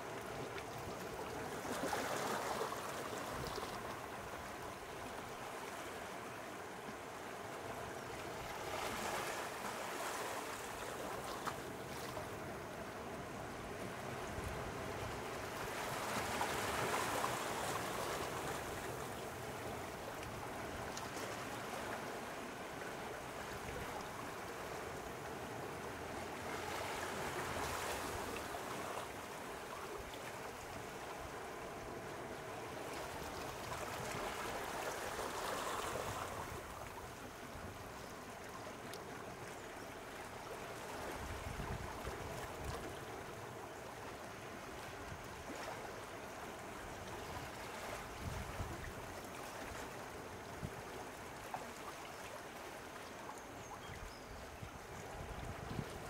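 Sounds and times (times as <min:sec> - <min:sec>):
sea waves lapping at shore: 0:00.0 - 0:56.0.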